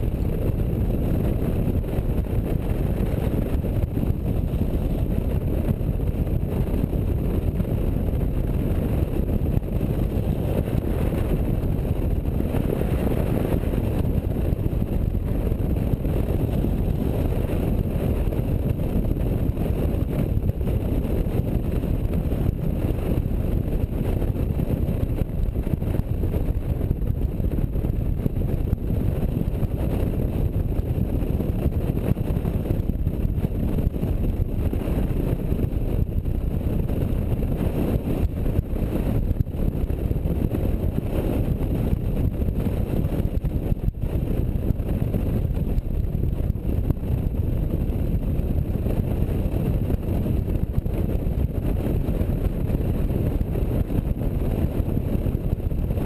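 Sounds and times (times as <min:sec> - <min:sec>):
road noise: 0:00.0 - 0:56.0
wind on microphone: 0:00.0 - 0:56.0.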